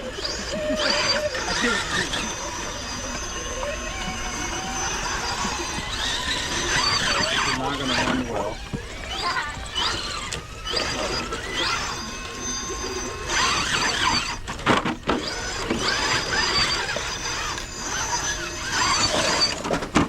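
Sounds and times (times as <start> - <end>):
rc truck motors whining: 0.0 - 20.0.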